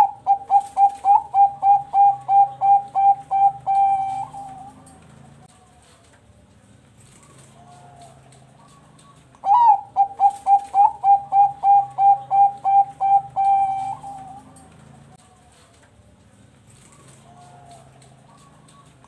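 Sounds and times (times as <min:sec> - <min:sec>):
dove cooing: 0:00.0 - 0:06.1, 0:07.0 - 0:15.8, 0:16.7 - 0:19.0.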